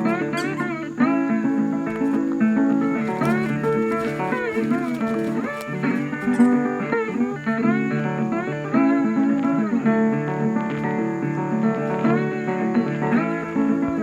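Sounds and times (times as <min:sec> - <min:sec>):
blues guitar music: 0:00.0 - 0:14.0.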